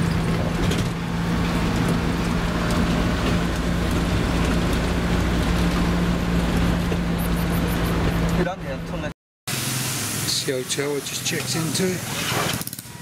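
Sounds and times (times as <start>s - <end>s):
minibus engine drone: 0.0s - 13.0s
tyre and road noise: 0.0s - 13.0s.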